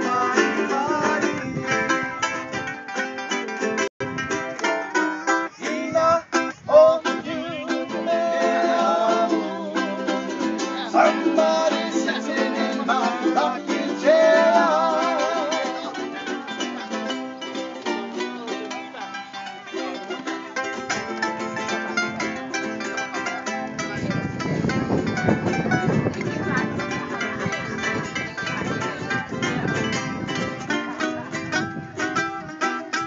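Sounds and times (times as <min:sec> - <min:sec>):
guitar: 0:00.0 - 0:33.0
strummed ukulele: 0:00.0 - 0:33.0.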